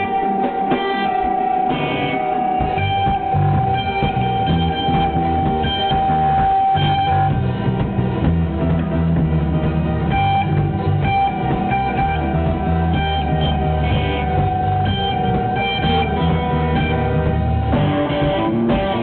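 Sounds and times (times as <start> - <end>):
live electro-rock band: 0.0 - 19.0.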